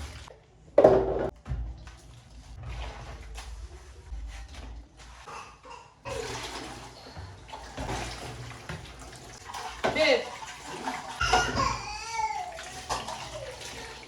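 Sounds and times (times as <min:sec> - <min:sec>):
water running into a tub: 0:00.0 - 0:14.0.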